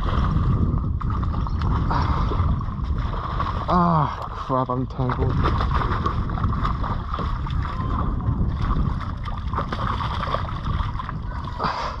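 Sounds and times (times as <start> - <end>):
water washing around wharf: 0.0 - 12.0
wind buffeting microphone: 0.0 - 12.0.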